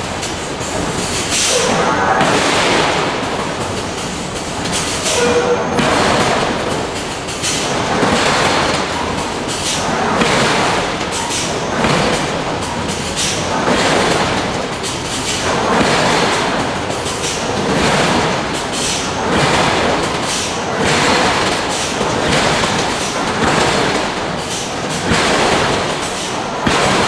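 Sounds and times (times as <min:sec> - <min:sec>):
forging hammer machinery noise: 0:00.0 - 0:27.0.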